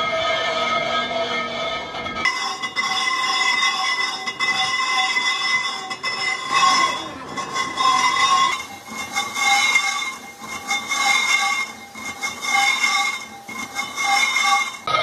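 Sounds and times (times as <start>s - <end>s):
lathe tool screeching on metal: 0.0s - 15.0s.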